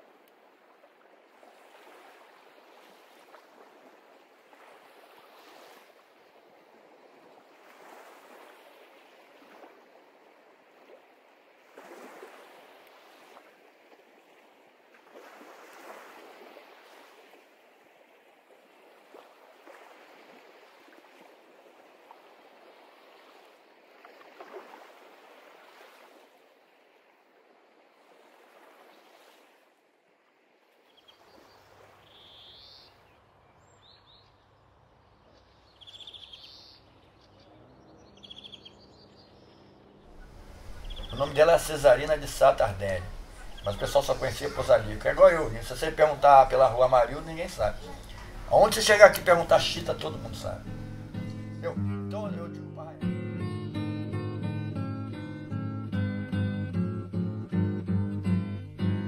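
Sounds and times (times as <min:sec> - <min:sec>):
faint sea waves washing: 0:00.0 - 0:53.1.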